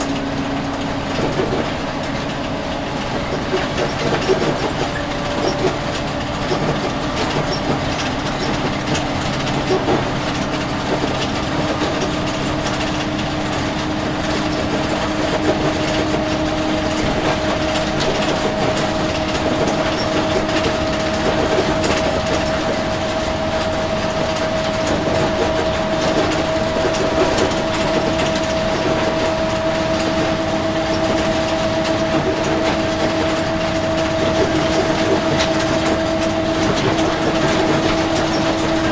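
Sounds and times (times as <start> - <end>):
bus body rattling: 0.0 - 38.9
bus engine and road noise: 0.0 - 38.9
drivetrain whine: 0.0 - 38.9.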